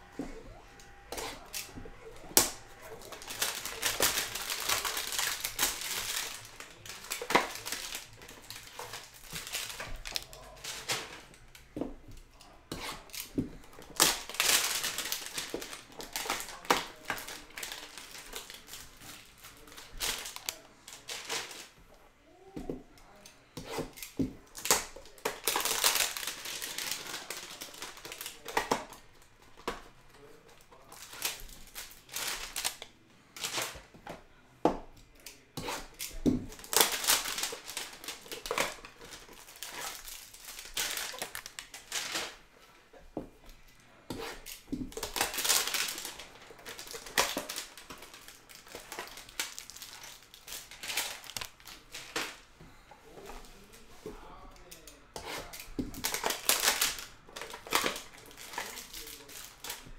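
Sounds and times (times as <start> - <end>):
plastic wrap crinkling: 0.0 - 22.5, 23.8 - 33.9, 35.3 - 59.9.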